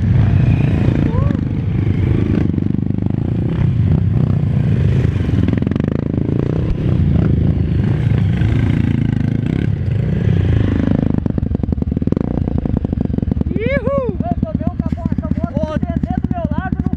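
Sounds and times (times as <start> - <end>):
motorcycle engines revving: 0.0 - 16.9.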